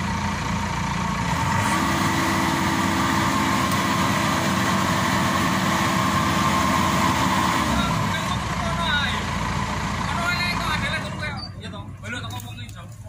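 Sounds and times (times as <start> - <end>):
diesel engine revving: 0.0 - 12.2.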